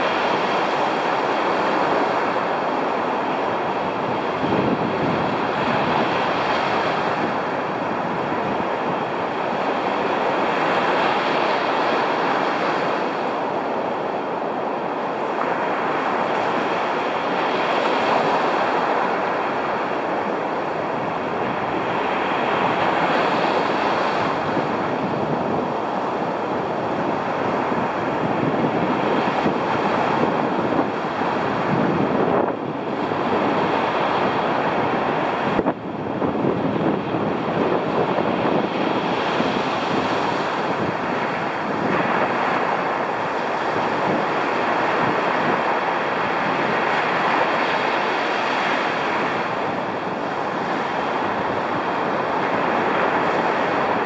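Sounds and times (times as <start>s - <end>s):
heavy surf breaking: 0.0s - 54.0s.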